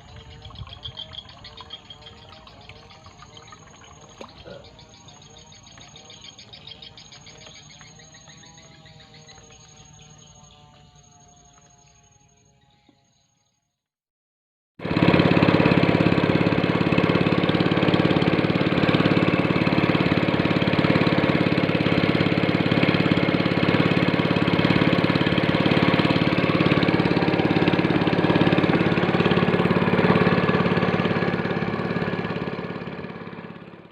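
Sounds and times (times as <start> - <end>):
small engine running: 0.0 - 13.7, 14.8 - 33.9.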